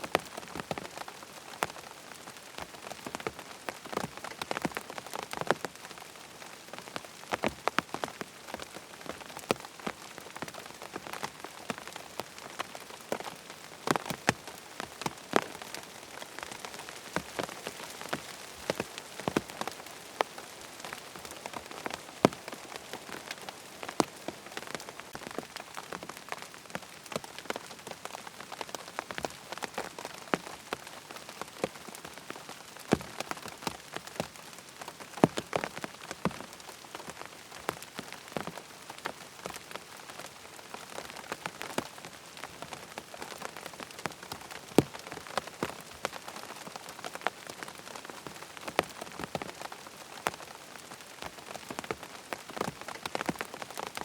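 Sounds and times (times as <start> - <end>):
rain pattering on tent fabric: 0.0 - 54.0.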